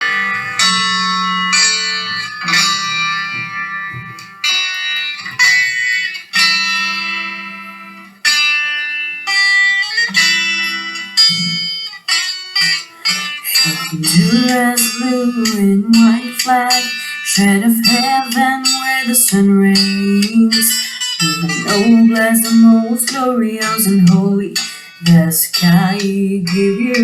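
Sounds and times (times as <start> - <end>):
guitar chords plucked: 0.0 - 27.0.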